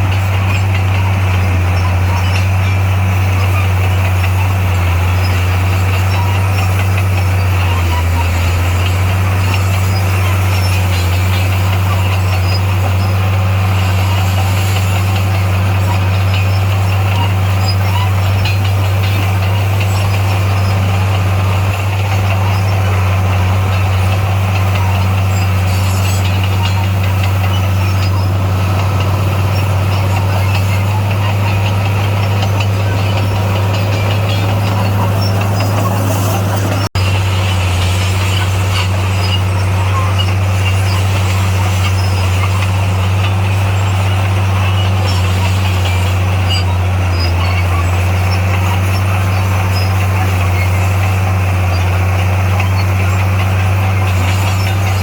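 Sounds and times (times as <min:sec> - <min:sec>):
heavy equipment engine running: 0:00.0 - 0:55.0.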